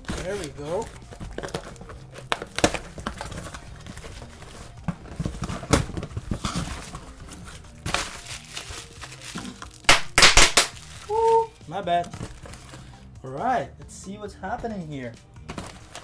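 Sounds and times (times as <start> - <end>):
cardboard and tape crinkling: 0.0 - 12.9, 15.5 - 16.0.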